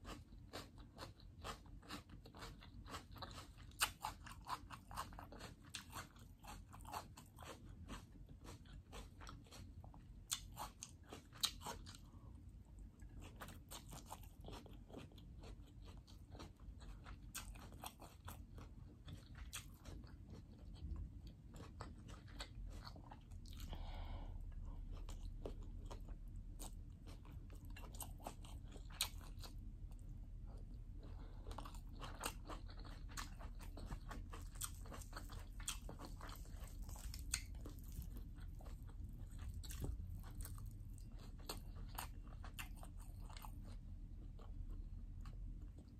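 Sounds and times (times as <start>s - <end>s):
chewing crunchy food: 0.0s - 45.9s
low steady hum: 0.0s - 45.9s.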